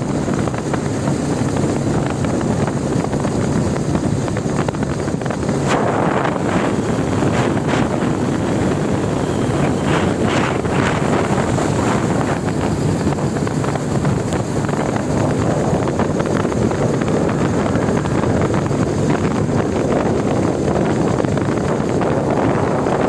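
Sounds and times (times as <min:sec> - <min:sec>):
motorcycle road noise: 0:00.0 - 0:23.0
wind buffeting microphone: 0:00.0 - 0:23.0.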